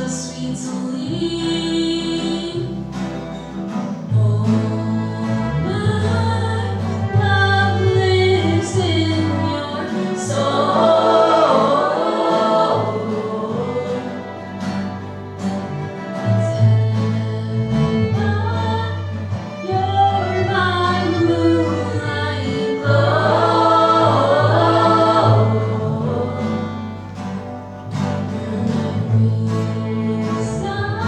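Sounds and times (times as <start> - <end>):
instrumental accompaniment: 0.0 - 31.0
group singing in harmony: 4.0 - 31.0.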